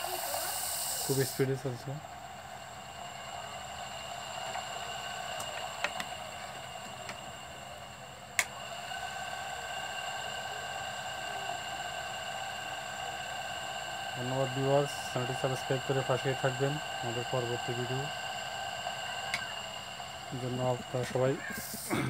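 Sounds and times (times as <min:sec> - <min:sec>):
ceiling fan motor whirring: 0:00.0 - 0:22.0.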